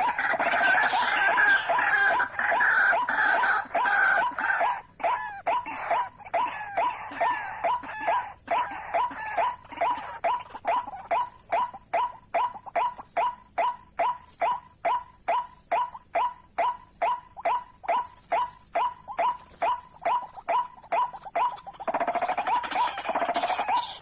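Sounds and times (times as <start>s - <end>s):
waterhen calling: 0.0s - 13.4s, 17.0s - 24.0s.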